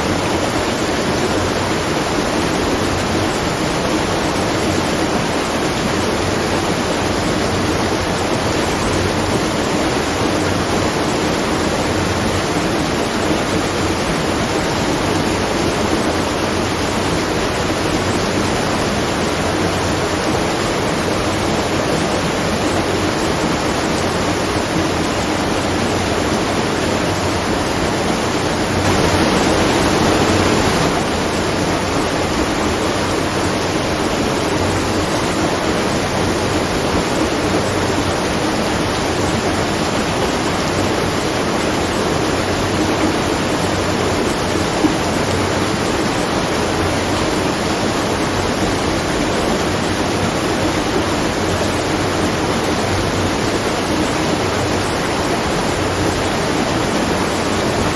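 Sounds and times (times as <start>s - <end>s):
water rushing and splashing: 0.0s - 57.9s.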